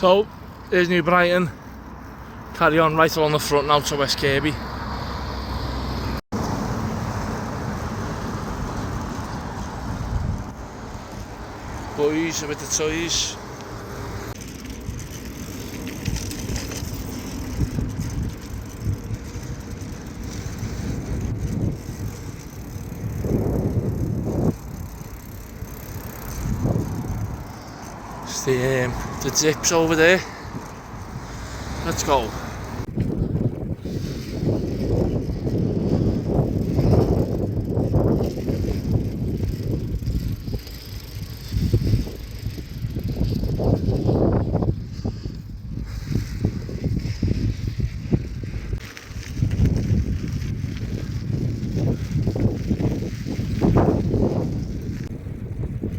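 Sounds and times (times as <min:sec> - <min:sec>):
bicycle tyre and road rumble: 0:00.0 - 0:55.9
wind buffeting microphone: 0:06.0 - 0:55.9.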